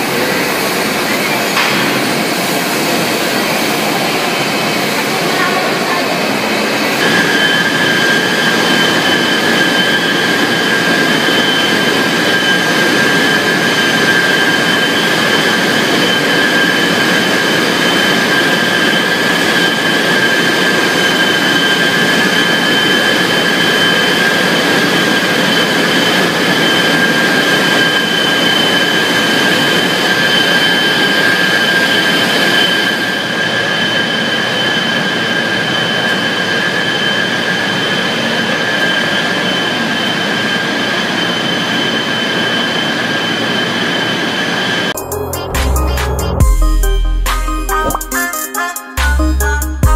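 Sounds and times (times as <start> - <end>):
machinery with high whine: 0.0 - 49.0.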